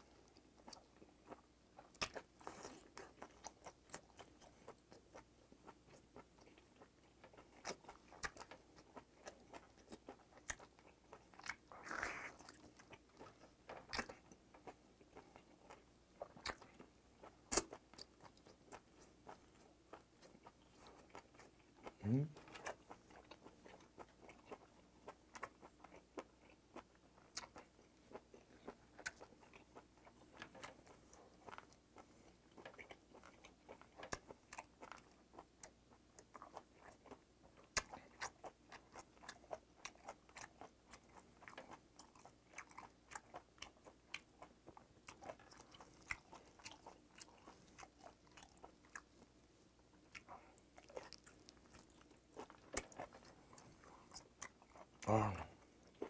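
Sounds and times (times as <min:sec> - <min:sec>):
person chewing octopus: 0:00.0 - 0:56.0.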